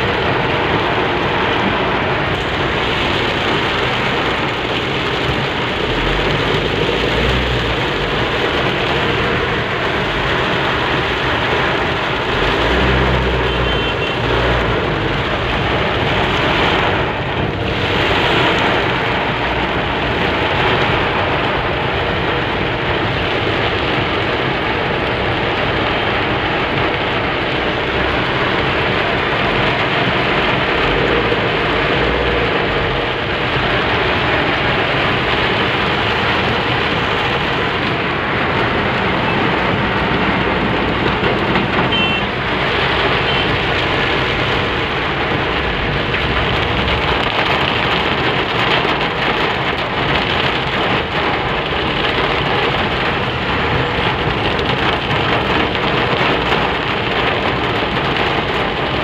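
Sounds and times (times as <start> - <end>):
heavy rain on a car roof: 0.0 - 59.0.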